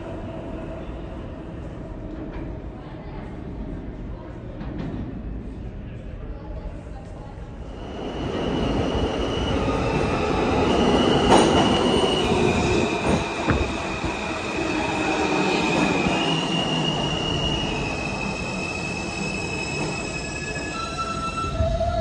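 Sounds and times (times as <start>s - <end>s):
subway train pulling in: 0.0s - 22.0s.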